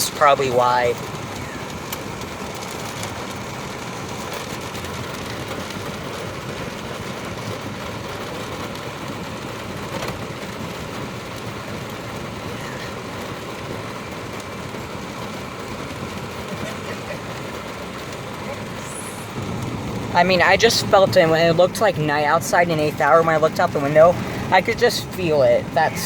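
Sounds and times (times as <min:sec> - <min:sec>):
hail and heavy rain pelting: 0:00.0 - 0:26.0.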